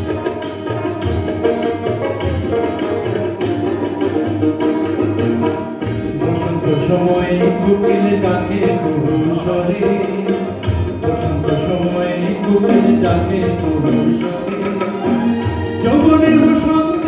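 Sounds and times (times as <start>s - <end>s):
song with melody and percussion: 0.0s - 17.0s.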